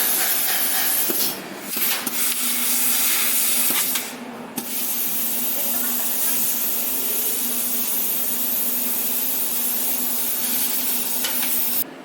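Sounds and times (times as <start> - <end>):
laser cutter gas jet hiss: 0.0 - 11.8
faint machine hum: 0.0 - 12.0.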